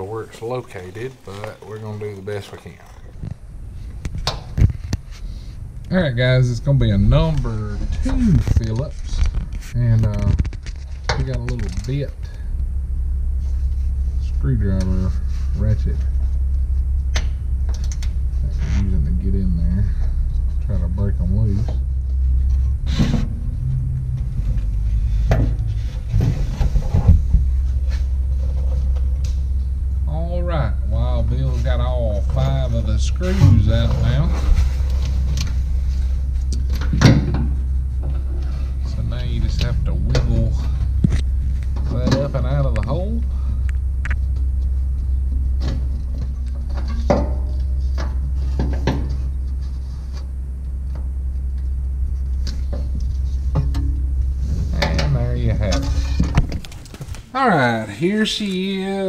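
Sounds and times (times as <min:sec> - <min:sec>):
steady low hum: 0:00.0 - 0:59.0
steady low rumble: 0:00.0 - 0:59.0.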